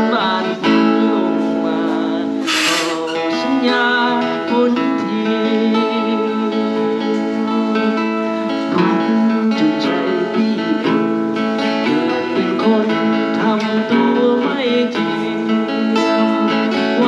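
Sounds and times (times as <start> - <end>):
guitar strumming and picking: 0.0 - 17.0.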